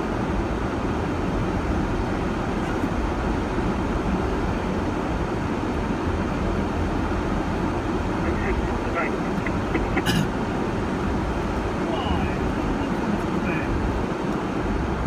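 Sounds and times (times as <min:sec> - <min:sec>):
vehicle engine rumble on dirt track: 0:00.0 - 0:15.0.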